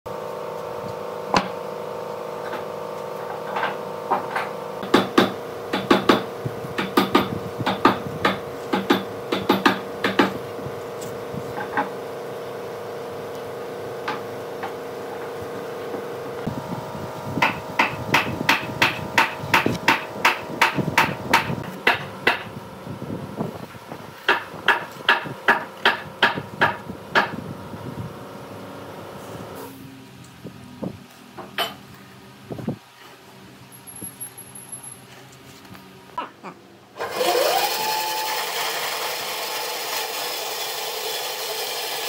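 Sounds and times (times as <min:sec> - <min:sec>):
droning hum: 0:00.1 - 0:37.0.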